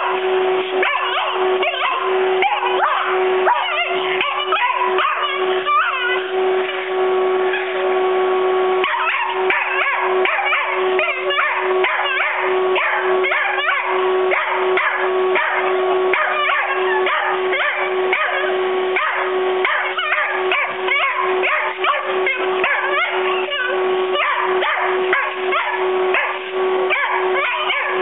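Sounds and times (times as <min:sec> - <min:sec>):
vacuum cleaner humming: 0:00.0 - 0:28.0
puppy yipping and whining: 0:00.8 - 0:06.9, 0:07.5 - 0:07.8, 0:08.8 - 0:28.0.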